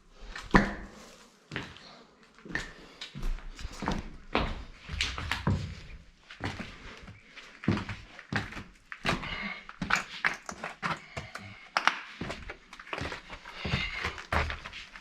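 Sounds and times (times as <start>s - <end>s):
footsteps and scuffs: 0.2s - 15.0s.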